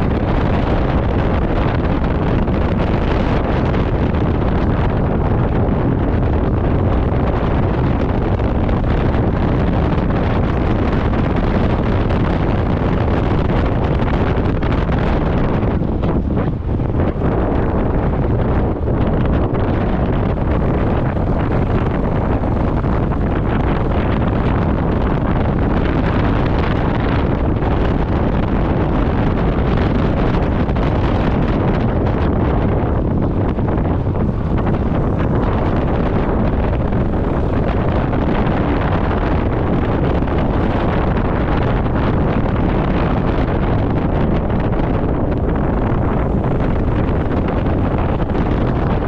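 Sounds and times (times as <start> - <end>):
road noise: 0.0 - 49.0
scooter engine and tyre noise: 0.0 - 49.0
wind rushing over microphone: 0.0 - 49.0.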